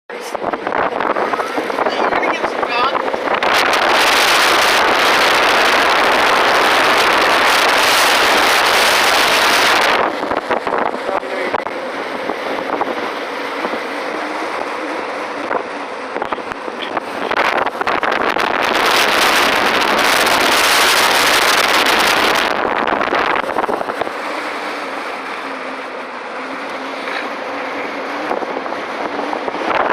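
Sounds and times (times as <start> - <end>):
wind and road noise rushing: 0.1 - 29.9.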